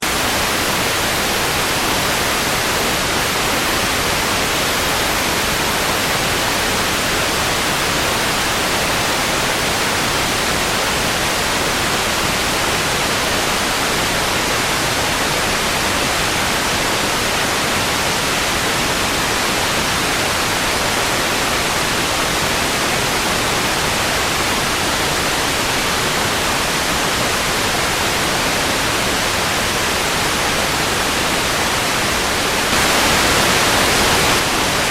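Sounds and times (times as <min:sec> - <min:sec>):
television static hiss: 0:00.0 - 0:34.9.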